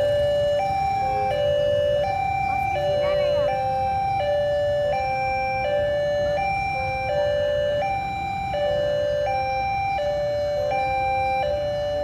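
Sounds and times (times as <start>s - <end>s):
level crossing warning signal: 0.0s - 12.0s
low traffic rumble: 0.0s - 12.0s.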